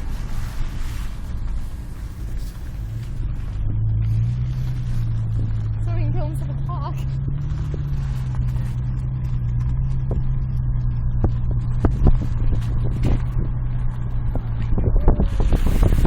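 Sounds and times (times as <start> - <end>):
engine humming and rumbling: 0.0 - 16.0.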